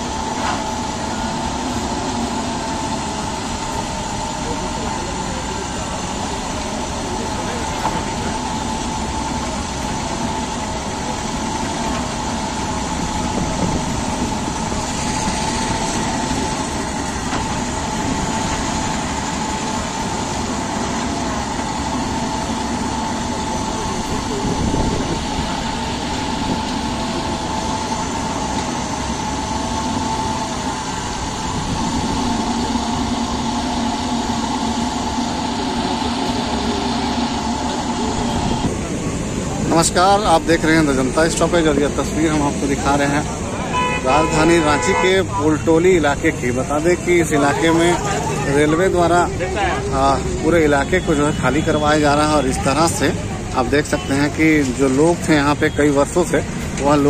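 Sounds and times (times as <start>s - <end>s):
diesel engine with whine: 0.0s - 57.0s.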